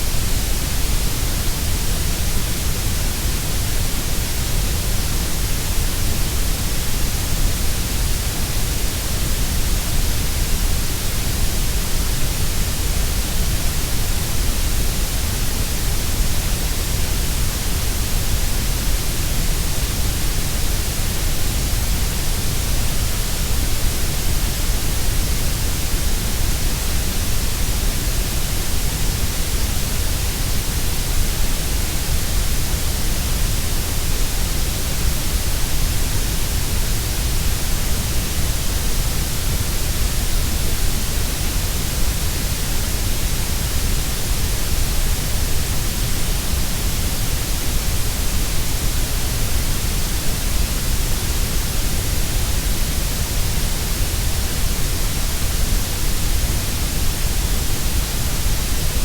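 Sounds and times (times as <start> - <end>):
grey noise hiss: 0.0 - 59.0.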